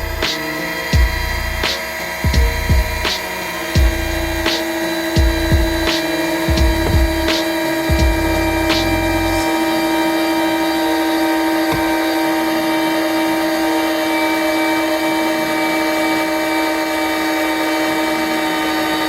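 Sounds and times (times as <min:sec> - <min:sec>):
steady motor whine: 0:00.0 - 0:19.0.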